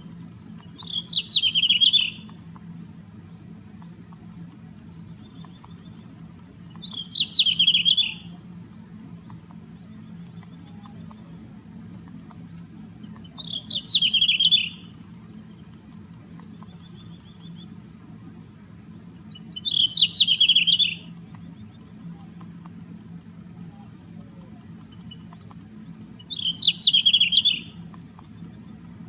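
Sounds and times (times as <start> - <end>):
songbird warbling: 0.0 - 29.0
steady low hum: 0.0 - 29.0.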